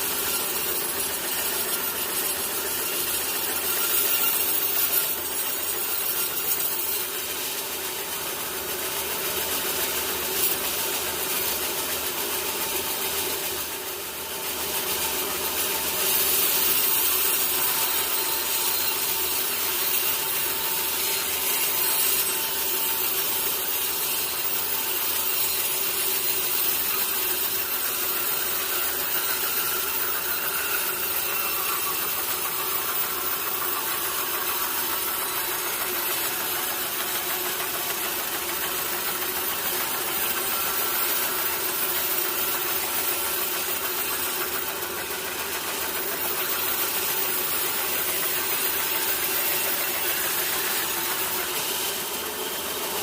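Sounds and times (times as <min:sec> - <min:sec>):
saw blade cutting log: 0:00.0 - 0:53.0.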